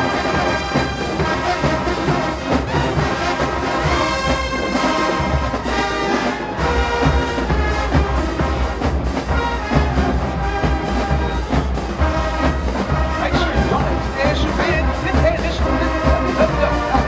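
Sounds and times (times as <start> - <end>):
brass section playing loudly: 0.0 - 17.0
drumline beat: 0.0 - 17.0.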